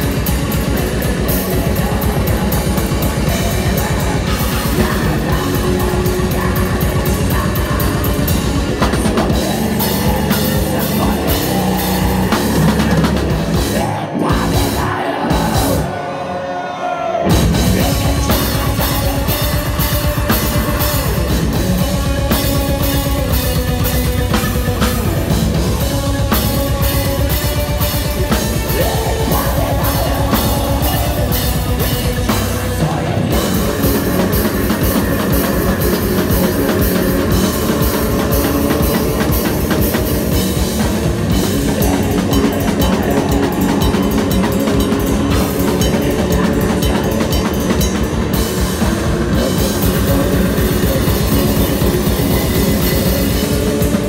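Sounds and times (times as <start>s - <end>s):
fast dense drumming: 0.0s - 16.0s, 17.3s - 54.0s
electric guitar: 0.0s - 54.0s.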